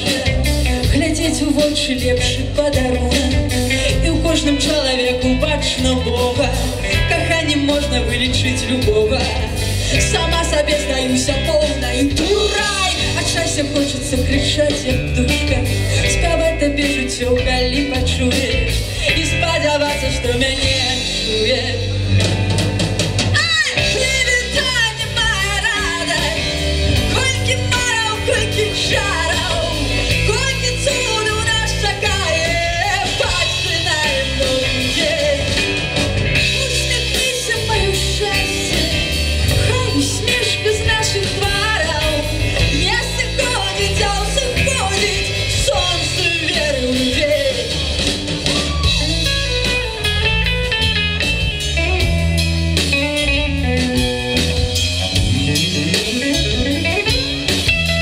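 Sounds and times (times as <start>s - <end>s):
woman singing: 0.0s - 22.3s, 23.2s - 49.8s
bass guitar: 0.0s - 58.0s
drum kit: 0.0s - 58.0s
electric guitar: 0.0s - 58.0s.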